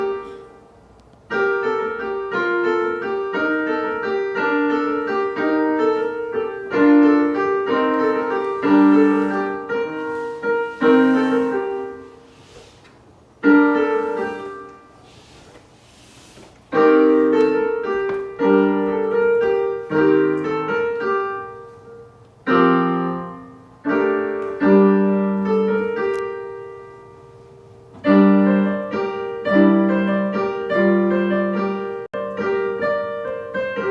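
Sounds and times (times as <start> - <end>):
piano short phrases: 0.0 - 12.8, 13.4 - 15.4, 16.7 - 33.9.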